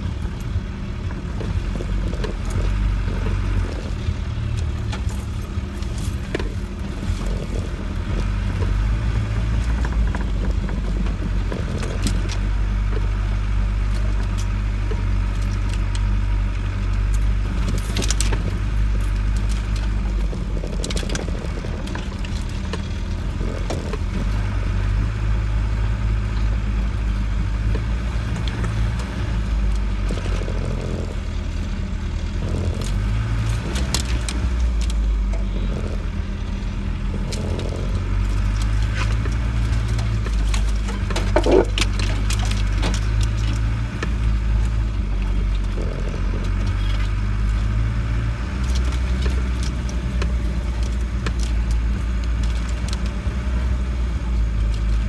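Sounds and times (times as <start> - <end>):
car engine drone: 0.0 - 55.0.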